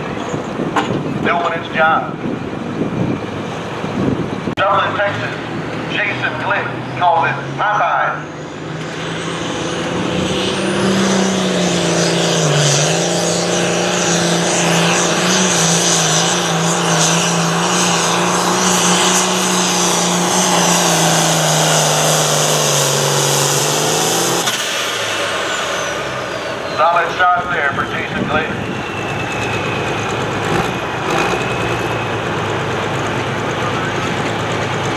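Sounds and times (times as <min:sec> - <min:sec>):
tractor diesel engine at full throttle: 0:00.0 - 0:34.9
high whine: 0:04.6 - 0:34.9.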